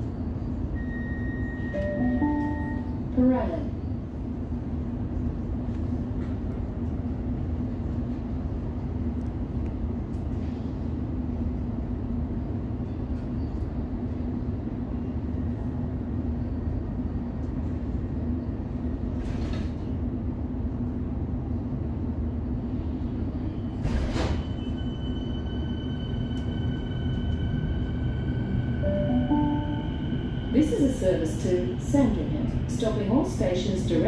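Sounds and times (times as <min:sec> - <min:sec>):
electric train rumble and hum: 0:00.0 - 0:34.0.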